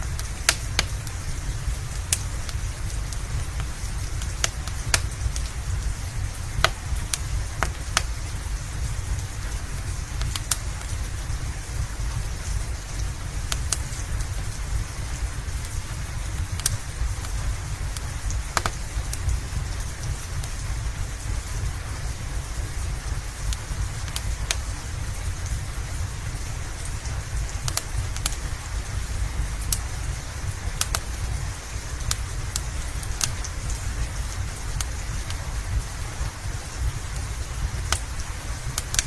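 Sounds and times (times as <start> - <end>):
fireplace crackling and popping: 0.0 - 39.0
steady rain: 0.0 - 39.0.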